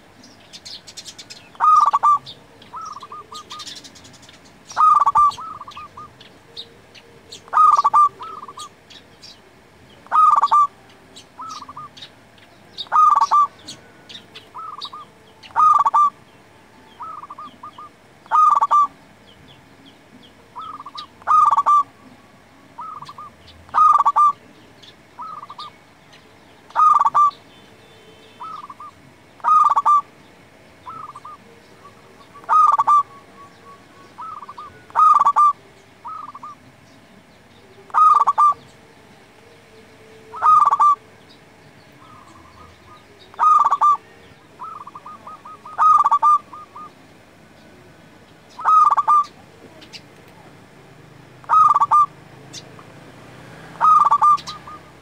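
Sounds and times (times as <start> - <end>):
dove cooing: 0.9 - 16.3, 16.9 - 19.0, 20.2 - 25.8, 26.7 - 27.4, 28.4 - 30.1, 30.8 - 36.8, 37.6 - 41.2, 41.9 - 50.5, 51.4 - 55.0.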